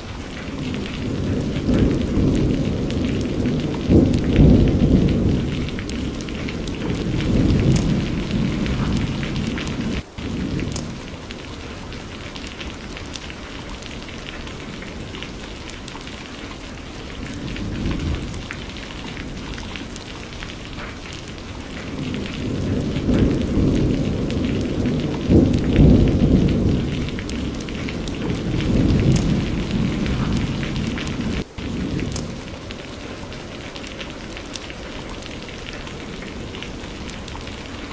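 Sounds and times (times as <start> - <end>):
heavy rain: 0.0 - 37.9
rolling thunder: 0.0 - 37.9.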